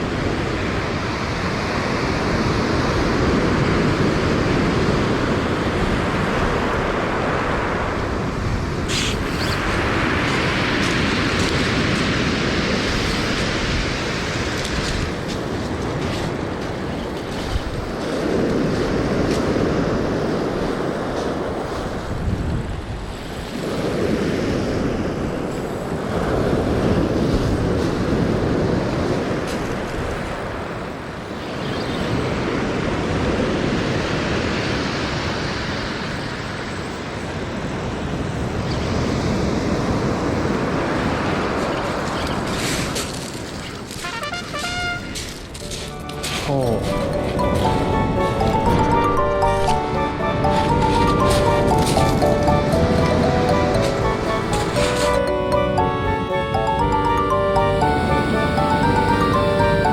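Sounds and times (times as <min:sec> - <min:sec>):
ocean surf breaking: 0:00.0 - 0:31.1, 0:39.2 - 0:59.9.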